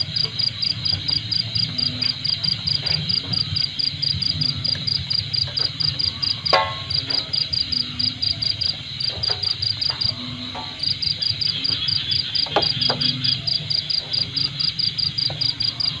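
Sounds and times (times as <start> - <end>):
insect chirping trill: 0.0 - 16.0.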